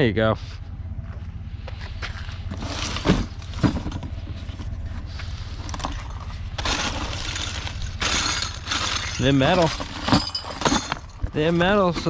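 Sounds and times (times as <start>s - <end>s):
vehicle engine idling: 0.0s - 12.0s
scrap clattering: 2.0s - 12.0s.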